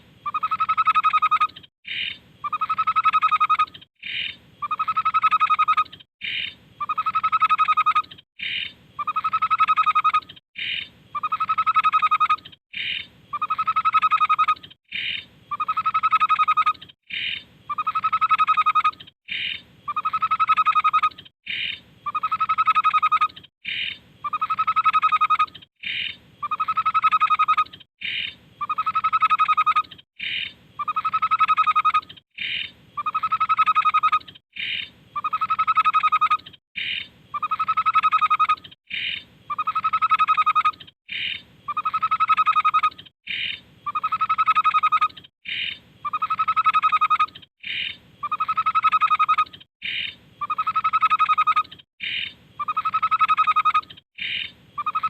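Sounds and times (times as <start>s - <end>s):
babbler bird hooting song: 0.2s - 55.0s.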